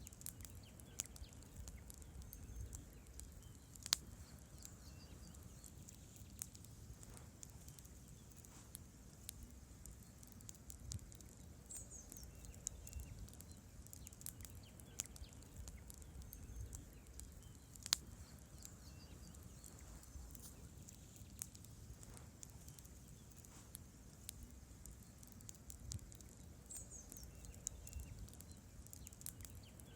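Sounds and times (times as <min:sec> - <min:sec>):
campfire crackling and popping: 0:00.0 - 0:29.9
low rumble of flames: 0:00.0 - 0:29.9.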